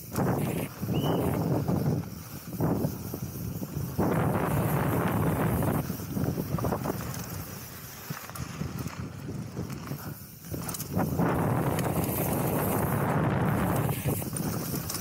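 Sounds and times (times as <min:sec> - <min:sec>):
bike knocks and rattles: 0:00.0 - 0:15.0
bike tyres rumbling over dirt: 0:00.0 - 0:15.0.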